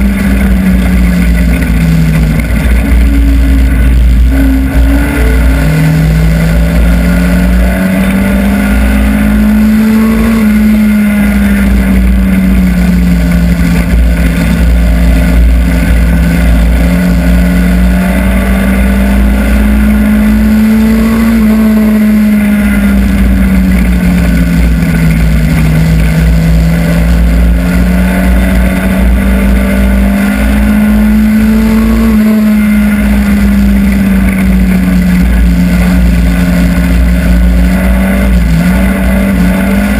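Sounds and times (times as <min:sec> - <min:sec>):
race car engine: 0:00.0 - 0:39.9
road and wind rumble: 0:00.0 - 0:39.9.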